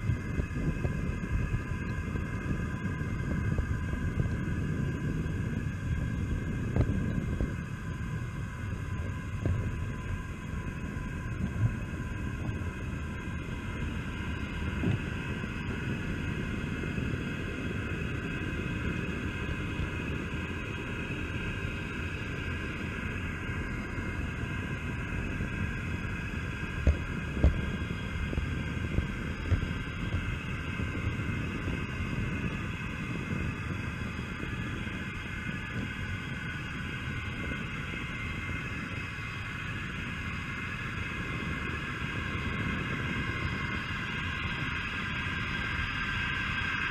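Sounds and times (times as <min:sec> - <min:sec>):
small electric motor whirring: 0:00.0 - 0:46.9
wheels rumbling on rail: 0:00.0 - 0:46.9.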